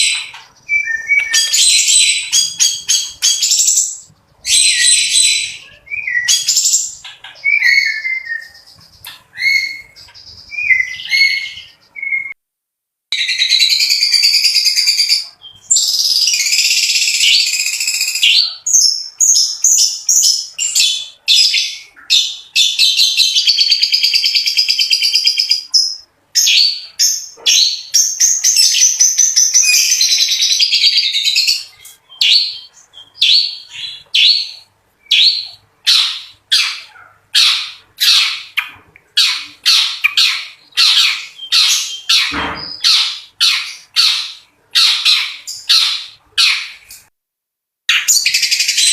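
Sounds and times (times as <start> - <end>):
bird trilling song: 0.0 - 12.4, 13.2 - 47.1, 47.9 - 48.9
harsh bird calls: 0.0 - 12.4, 13.1 - 47.1.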